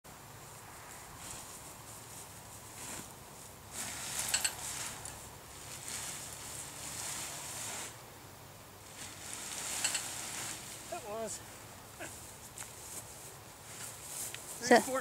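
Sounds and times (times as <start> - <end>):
nylon parachute rustling: 0.4 - 8.1, 8.8 - 15.0.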